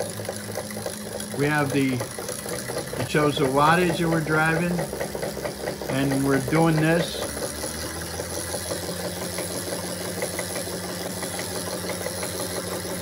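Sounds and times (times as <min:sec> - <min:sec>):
drive chain running: 0:00.0 - 0:13.0
electric motor hum: 0:00.0 - 0:13.0.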